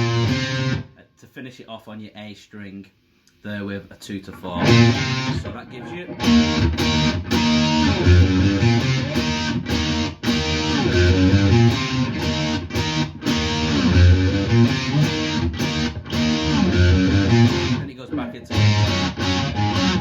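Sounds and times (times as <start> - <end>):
electric guitar rock riff: 0.0 - 1.0, 4.6 - 20.0.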